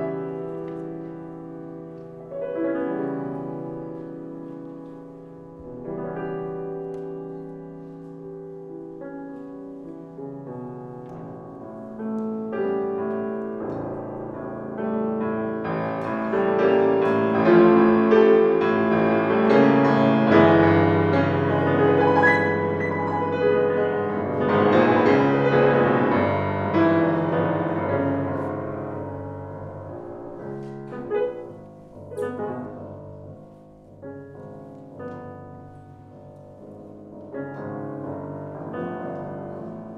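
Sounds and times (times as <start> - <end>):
solo grand piano: 0.0 - 39.9.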